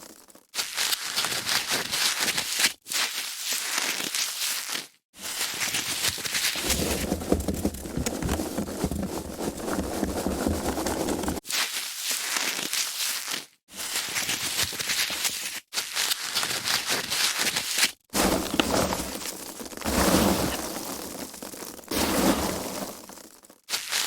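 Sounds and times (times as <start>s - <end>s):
foam packaging squeaking and crackling: 0.0s - 24.0s.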